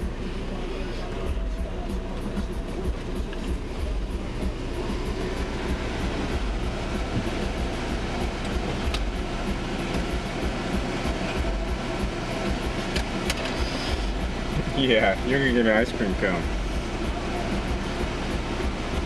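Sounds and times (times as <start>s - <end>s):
car engine and cabin rumble: 0.0s - 19.0s.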